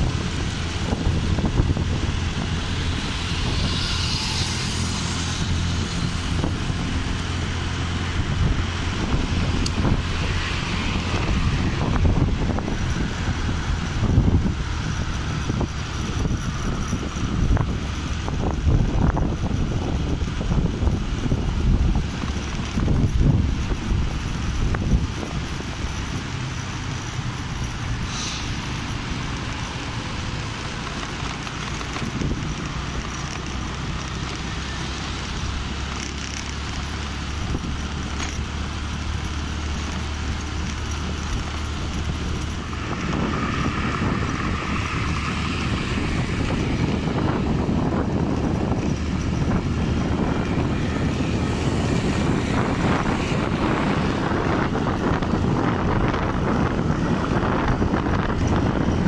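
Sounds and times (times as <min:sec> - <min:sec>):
motorcycle engine hum: 0:00.0 - 0:59.0
tyre road noise: 0:00.0 - 0:59.0
wind buffeting microphone: 0:00.0 - 0:59.0.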